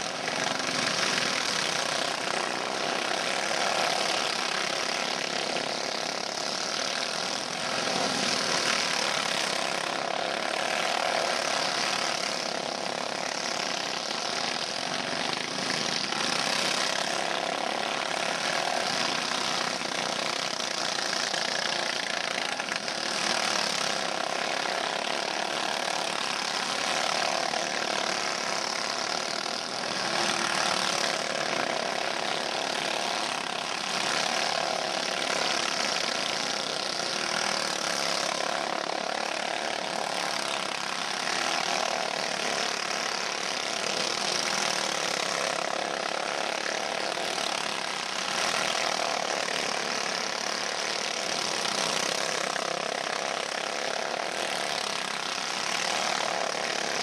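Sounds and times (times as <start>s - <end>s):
go-kart engines running hard: 0.0s - 57.0s.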